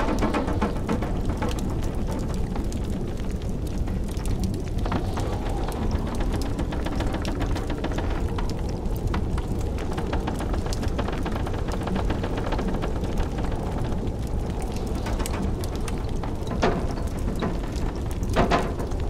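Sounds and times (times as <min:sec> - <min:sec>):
blizzard wind rumble: 0:00.0 - 0:19.0
wood fire crackling and popping: 0:00.0 - 0:19.0.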